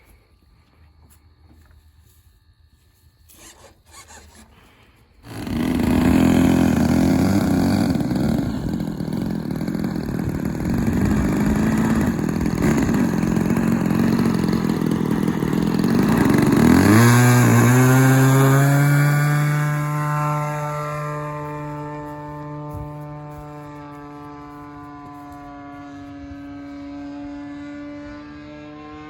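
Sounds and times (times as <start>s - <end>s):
model airplane engine idling: 3.3s - 26.9s.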